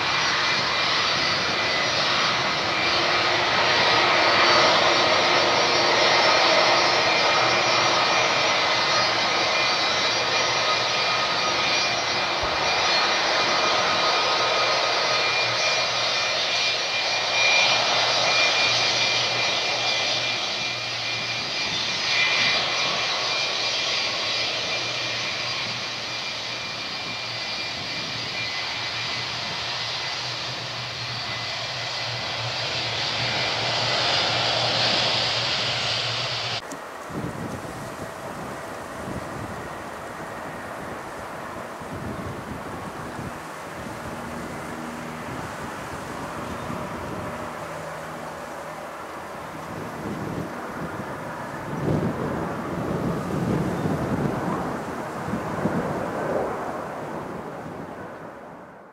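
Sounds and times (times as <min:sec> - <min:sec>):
jet engines taxiing: 0:00.0 - 0:58.9.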